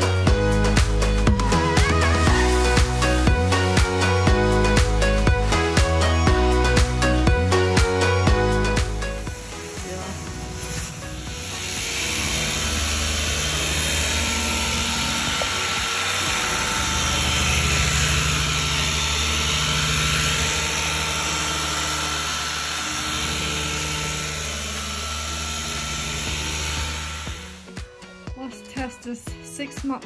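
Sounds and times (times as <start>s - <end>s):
electric power tool whirring: 0.0s - 28.2s.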